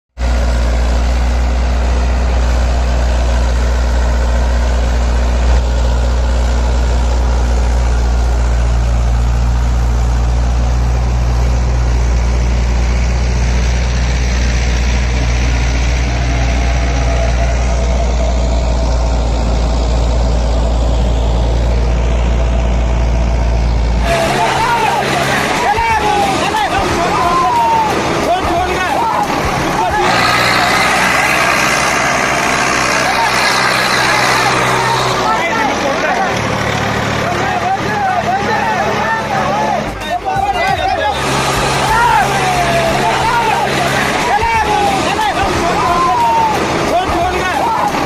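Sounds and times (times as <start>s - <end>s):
tractor engine droning: 0.1s - 48.0s.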